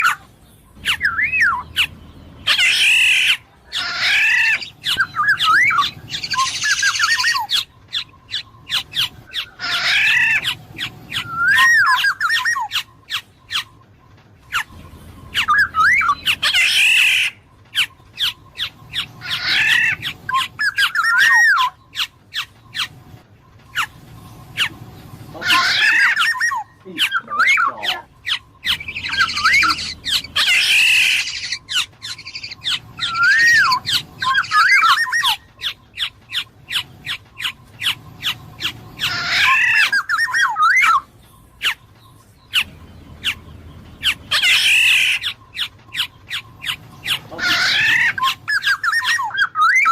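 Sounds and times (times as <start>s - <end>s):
bird squawks and whistled notes: 0.0s - 13.8s, 14.4s - 49.9s.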